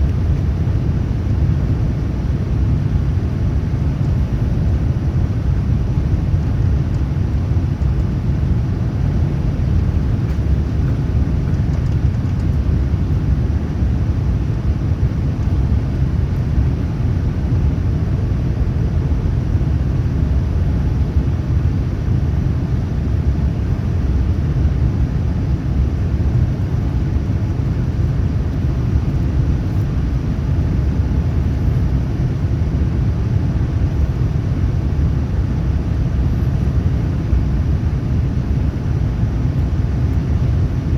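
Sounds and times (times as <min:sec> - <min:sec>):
airplane cabin low rumble: 0:00.0 - 0:40.9.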